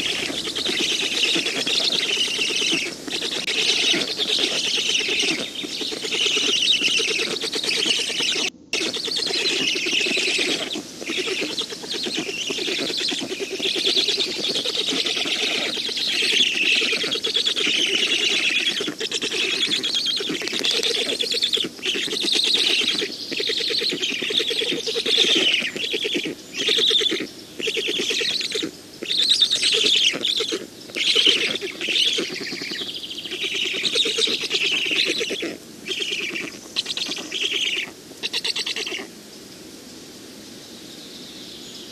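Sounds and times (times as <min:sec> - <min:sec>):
stork nestlings chattering: 0:00.0 - 0:39.0.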